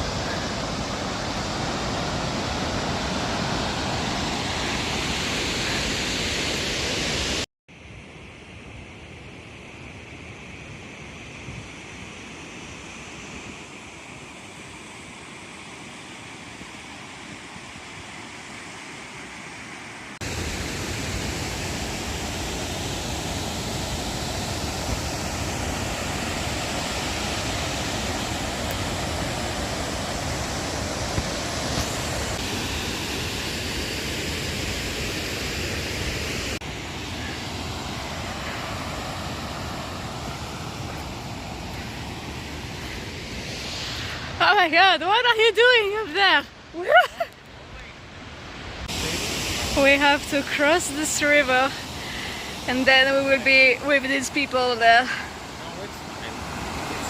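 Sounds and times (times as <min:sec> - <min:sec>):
rushing water: 0:00.0 - 0:07.5, 0:11.2 - 0:57.0.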